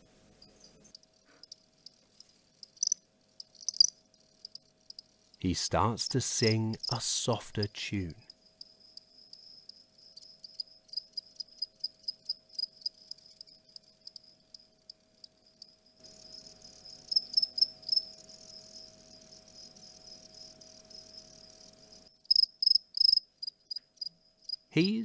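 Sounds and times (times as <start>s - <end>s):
cricket chirping: 0.3s - 5.4s, 8.3s - 24.7s.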